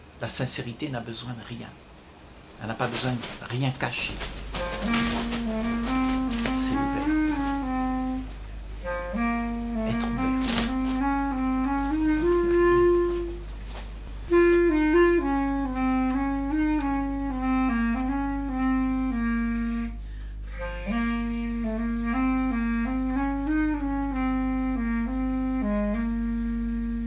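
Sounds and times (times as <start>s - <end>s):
steady low drone: 4.0s - 27.0s
slow solo melody: 4.5s - 27.0s.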